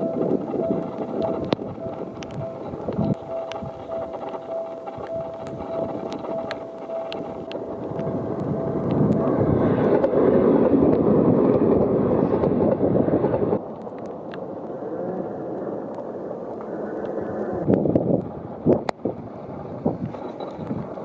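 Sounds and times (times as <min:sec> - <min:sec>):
electric train passing: 0:00.0 - 0:17.6
rain and strong wind: 0:00.0 - 0:21.0.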